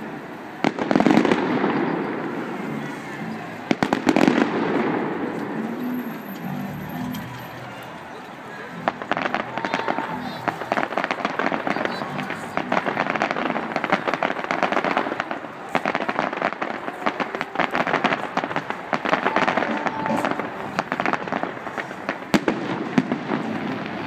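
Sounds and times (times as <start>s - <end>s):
fireworks crackling and popping: 0.0s - 24.0s.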